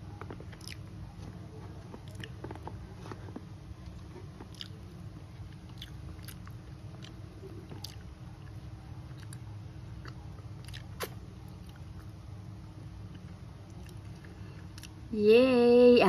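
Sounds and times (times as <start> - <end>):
steady low hum: 0.0 - 16.0
person chewing and crunching food: 0.1 - 12.2, 13.0 - 15.0.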